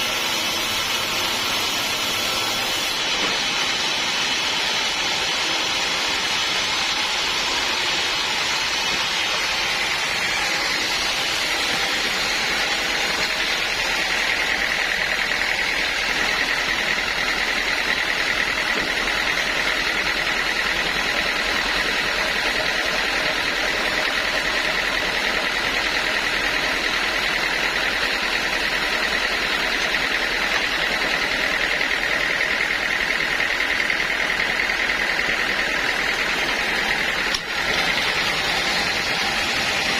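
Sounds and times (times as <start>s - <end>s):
band sawmill whine: 0.0s - 39.9s.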